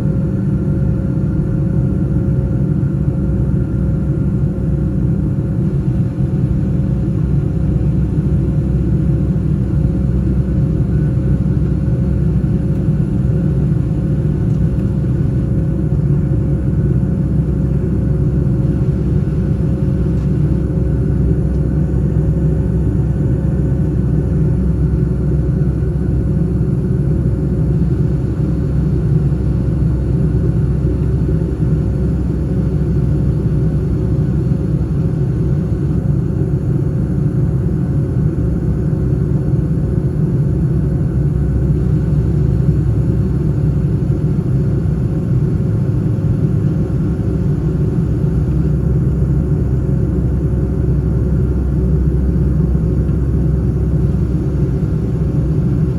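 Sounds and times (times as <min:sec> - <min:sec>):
airplane cabin engine rumble: 0:00.0 - 0:55.9
faint steady hum: 0:00.0 - 0:55.9.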